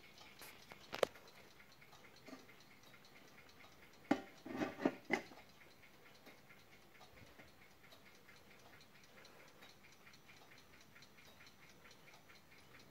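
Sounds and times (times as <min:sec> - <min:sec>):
clock ticking faintly: 0:00.0 - 0:12.9.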